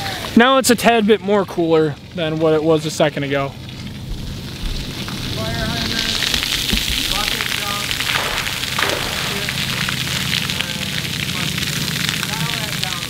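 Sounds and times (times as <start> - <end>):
fountain jets spraying water: 0.0 - 13.0.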